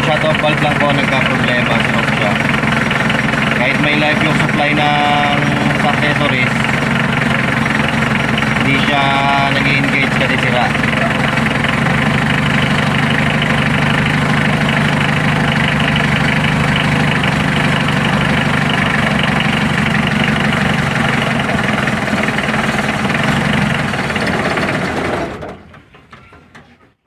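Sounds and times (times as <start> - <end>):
diesel engine idling: 0.0 - 26.5.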